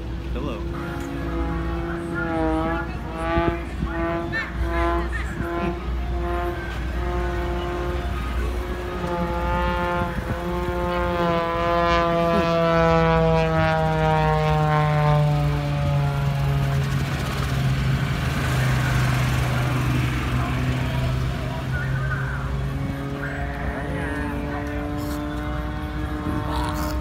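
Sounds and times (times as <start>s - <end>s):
propeller plane flying past: 0.0s - 27.0s.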